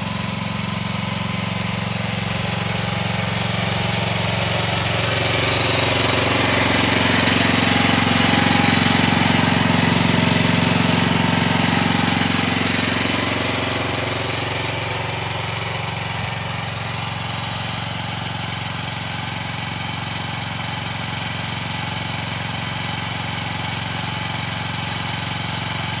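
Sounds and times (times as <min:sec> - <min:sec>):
mini excavator engine running: 0:00.0 - 0:26.0.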